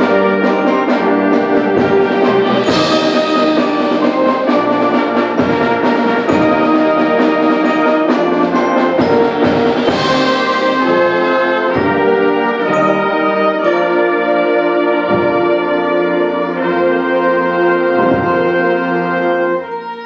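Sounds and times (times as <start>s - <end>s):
brass chords: 0.0s - 20.0s
symphonic band playing: 0.0s - 20.0s.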